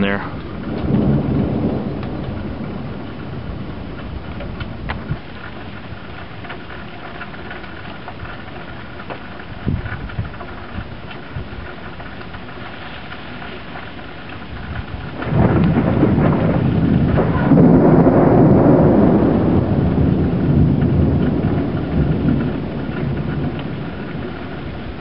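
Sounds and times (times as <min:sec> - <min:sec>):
heavy rain hissing: 0:00.0 - 0:25.0
thunder rumbling: 0:00.0 - 0:25.0.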